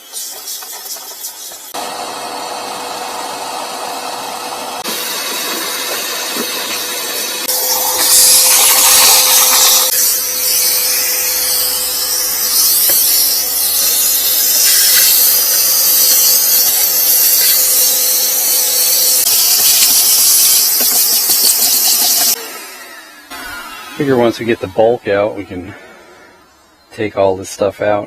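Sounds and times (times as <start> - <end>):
vacuum cleaner hissing: 0.0 - 26.9.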